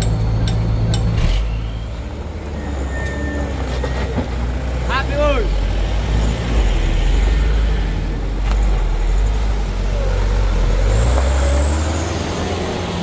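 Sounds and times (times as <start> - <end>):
truck diesel engine rumble: 0.0 - 13.0.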